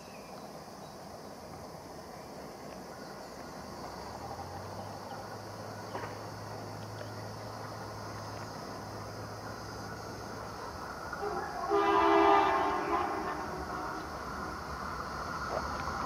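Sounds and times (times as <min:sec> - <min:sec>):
distant diesel locomotive engine: 0:00.0 - 0:16.0
insects chirring: 0:00.0 - 0:16.0.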